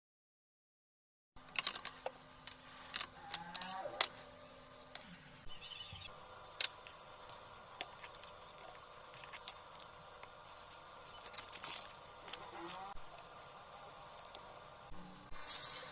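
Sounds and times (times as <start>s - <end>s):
faint steady hum: 1.4s - 15.9s.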